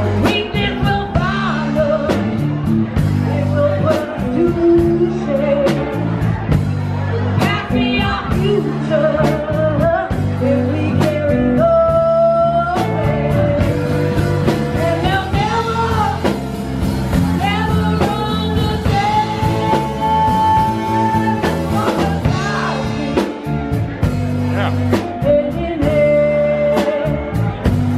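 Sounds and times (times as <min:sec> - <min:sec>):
woman singing: 0:00.0 - 0:02.4, 0:03.2 - 0:06.0, 0:07.4 - 0:23.5, 0:25.0 - 0:27.9
drum kit: 0:00.0 - 0:27.9
electric bass: 0:00.0 - 0:27.9
electric guitar: 0:00.0 - 0:27.9.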